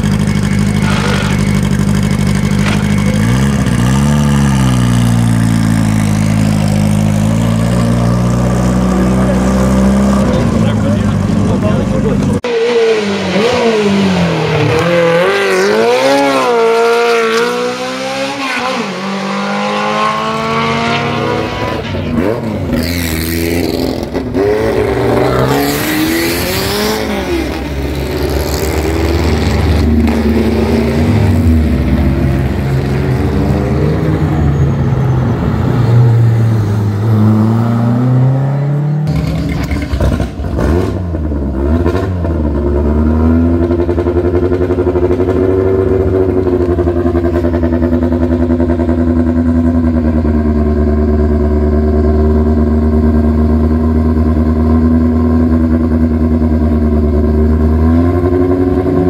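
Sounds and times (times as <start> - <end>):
race car engine revving hard: 0.6 - 49.0.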